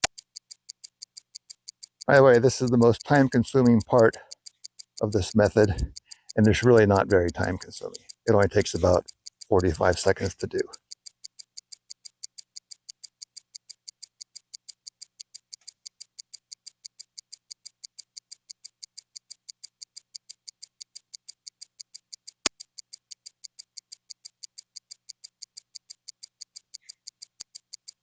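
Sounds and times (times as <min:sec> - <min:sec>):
clock ticking: 0:00.0 - 0:28.0
sharp click: 0:00.0 - 0:28.0.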